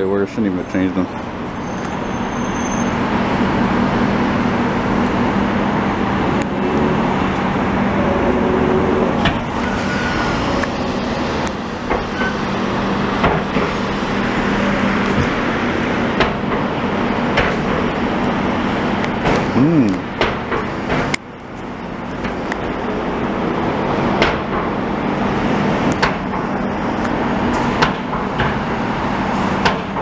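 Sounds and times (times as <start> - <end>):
dump truck engines droning: 0.0 - 30.0
traffic rumble: 0.0 - 30.0.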